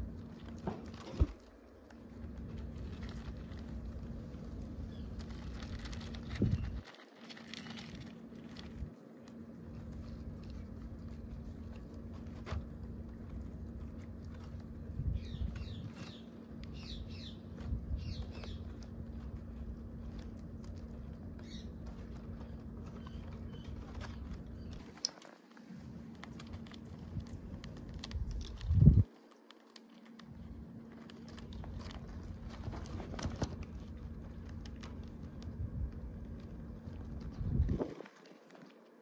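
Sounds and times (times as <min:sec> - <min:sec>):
hamsters scratching and gnawing: 0:00.0 - 0:39.0
steady low hum: 0:00.0 - 0:39.0.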